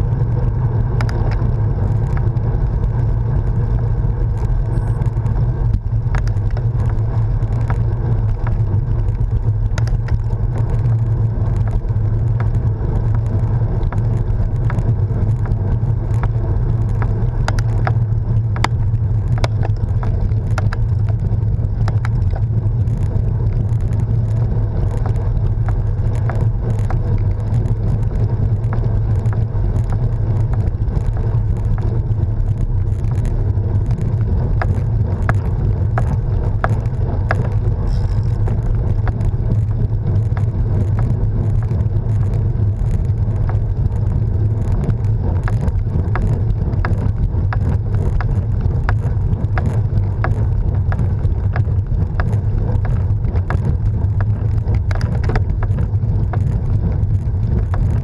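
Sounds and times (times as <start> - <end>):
small clicks and rattles: 0.0 - 58.0
tyres rolling on tarmac: 0.0 - 58.0
wind rumble on microphone: 0.0 - 58.0.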